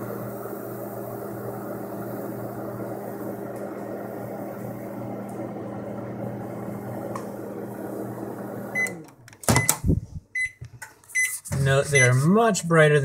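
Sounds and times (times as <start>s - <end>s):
microwave oven humming: 0.0s - 10.6s.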